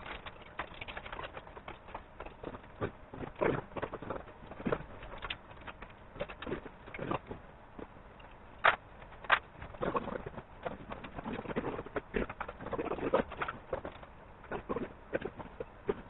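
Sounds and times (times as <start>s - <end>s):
clicks and knocks of handling: 0.0s - 16.0s.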